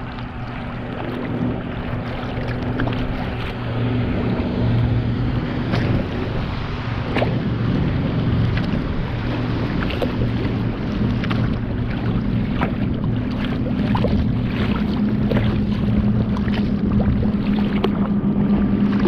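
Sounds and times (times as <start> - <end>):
water splashing against kayak: 0.0 - 19.0
wind buffeting microphone: 0.0 - 19.0.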